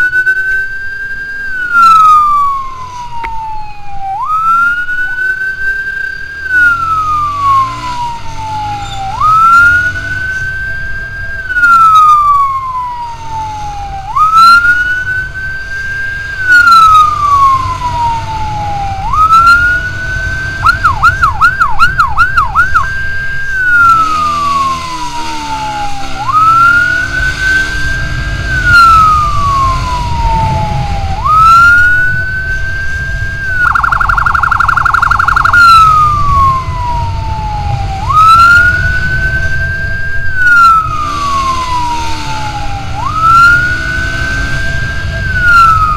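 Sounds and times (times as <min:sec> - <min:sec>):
electronic siren wailing: 0:00.0 - 0:45.9
motorcycle engine and wind rumble: 0:00.0 - 0:45.9.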